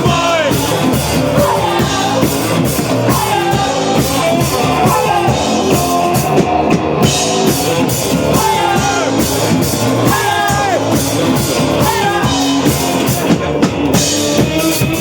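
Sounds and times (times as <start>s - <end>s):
drum kit beat: 0.0s - 15.0s
electric guitars: 0.0s - 15.0s
rock band playing loud: 0.0s - 15.0s.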